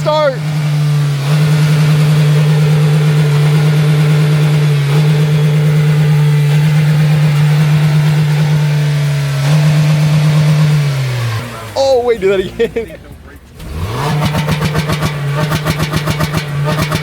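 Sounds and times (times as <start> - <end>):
engine droning at steady revs: 0.0 - 17.0.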